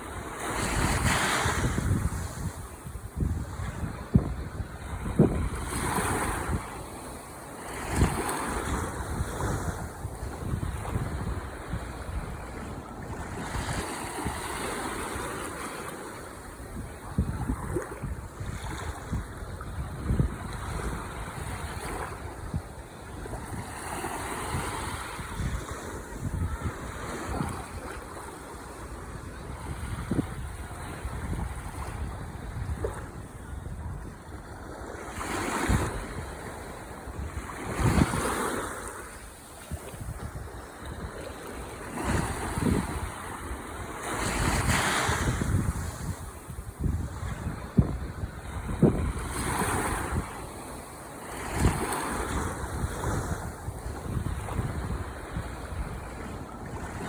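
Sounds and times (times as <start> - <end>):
wind buffeting microphone: 0.0 - 7.2, 7.8 - 15.5, 16.5 - 28.2, 28.8 - 57.0
ocean waves washing on shore: 0.0 - 57.0.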